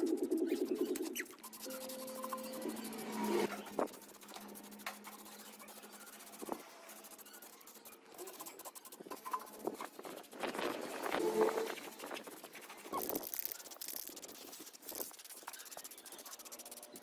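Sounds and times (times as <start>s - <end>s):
faint scraping and rubbing: 0.0s - 17.0s.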